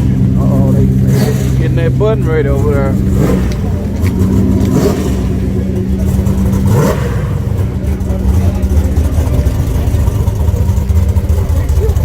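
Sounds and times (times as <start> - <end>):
car engines rumbling idle: 0.0 - 12.0.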